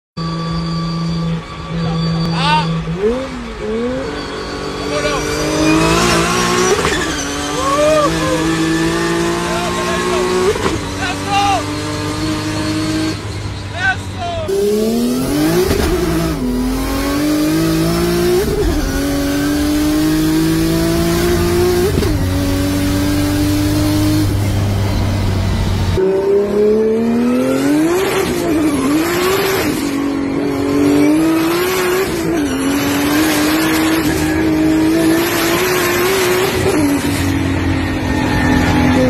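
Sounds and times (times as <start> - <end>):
car engine accelerating through gears: 0.2 - 13.7, 14.5 - 39.0.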